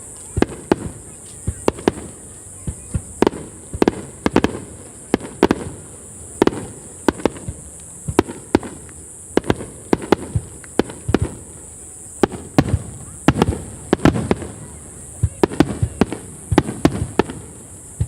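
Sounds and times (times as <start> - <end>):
fireworks bangs: 0.0 - 18.0
high-pitched hiss: 0.0 - 18.0.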